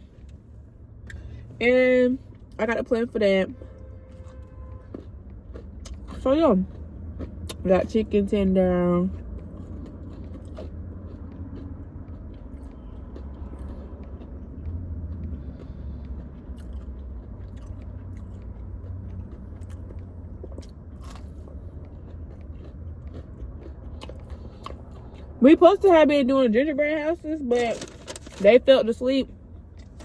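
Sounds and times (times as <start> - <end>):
chewing and crunching: 4.1 - 30.0.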